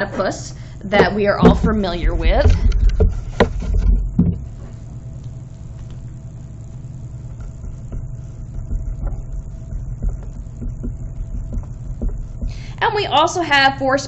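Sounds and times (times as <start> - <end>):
faint hum: 0.0 - 14.0
low background rumble: 0.0 - 14.0.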